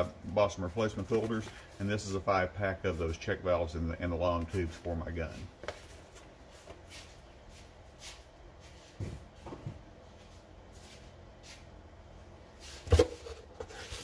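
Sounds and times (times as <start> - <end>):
knocks and rustles of handling objects: 0.0 - 3.3, 4.2 - 11.7, 12.5 - 14.0.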